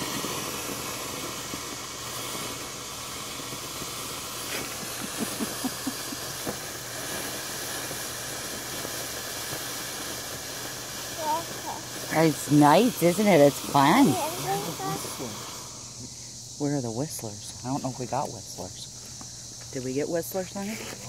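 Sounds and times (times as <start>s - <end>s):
firework fountain hissing: 0.0s - 21.0s.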